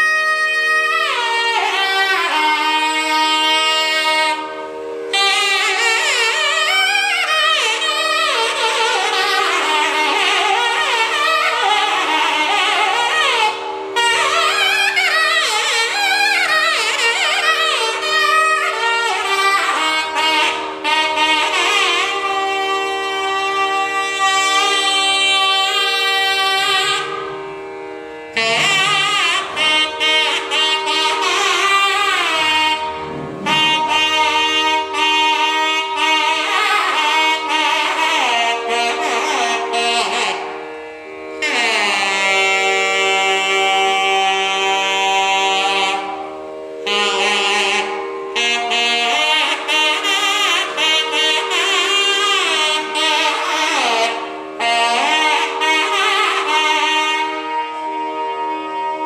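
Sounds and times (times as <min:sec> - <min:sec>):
reedy wind instrument melody: 0:00.0 - 0:59.0
steady drone: 0:00.0 - 0:59.0.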